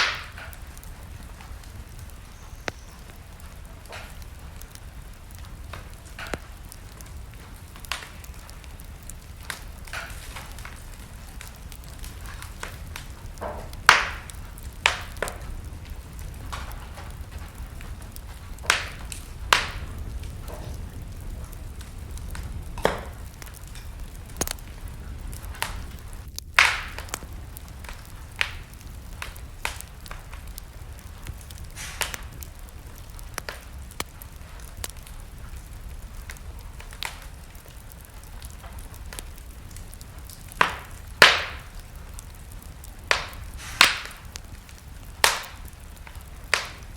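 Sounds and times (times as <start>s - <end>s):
fire crackling and popping: 0.0s - 46.9s
low rumble of flames: 0.0s - 46.9s.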